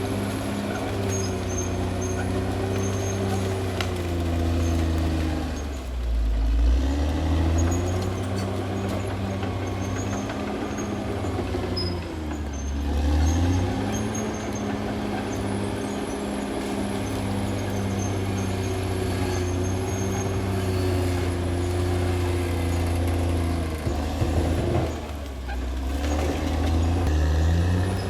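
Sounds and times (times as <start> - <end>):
bulldozer diesel engine under load: 0.0 - 28.0.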